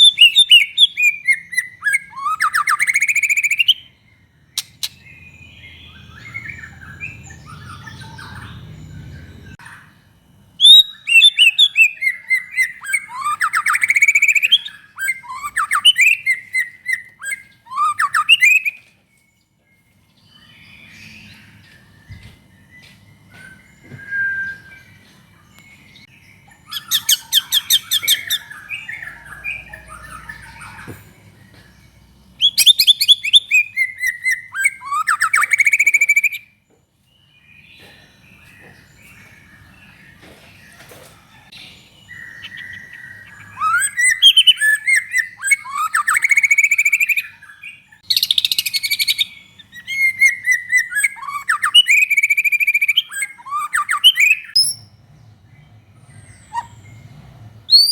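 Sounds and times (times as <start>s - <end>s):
bird singing whistles and trills: 0.0s - 18.9s, 19.8s - 36.6s, 41.6s - 55.0s, 57.7s - 57.9s.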